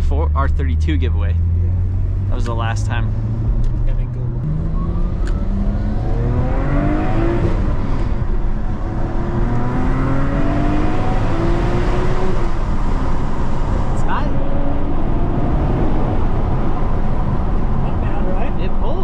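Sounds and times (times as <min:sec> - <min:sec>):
car engine accelerating through gears: 0:00.2 - 0:19.0.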